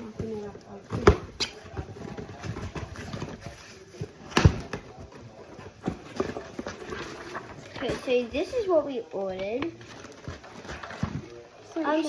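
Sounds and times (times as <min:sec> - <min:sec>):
box contents rustling: 0:00.0 - 0:11.4.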